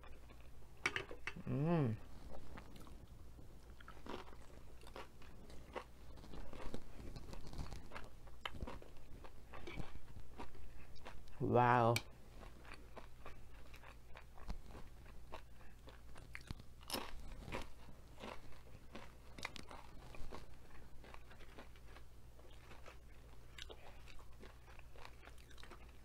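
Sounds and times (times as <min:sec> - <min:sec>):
crunchy chip chewing: 0:03.6 - 0:11.2, 0:12.4 - 0:26.0.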